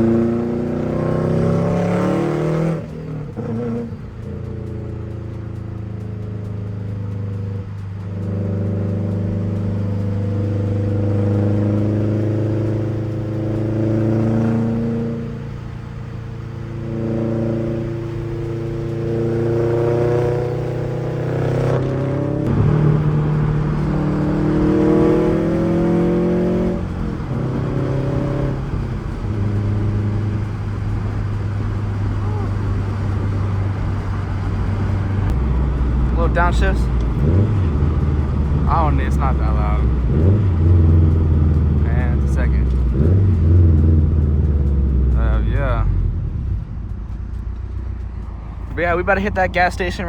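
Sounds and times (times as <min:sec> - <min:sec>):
car engine accelerating through gears: 0:00.0 - 0:50.0.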